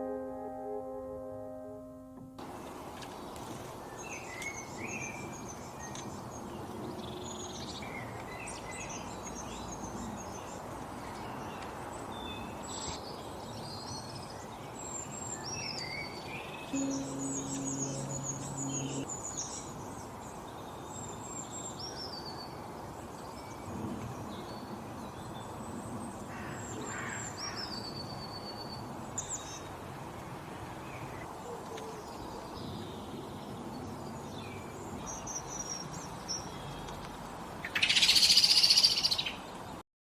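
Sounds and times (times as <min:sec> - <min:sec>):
steady outdoor hiss: 0:00.0 - 0:39.8.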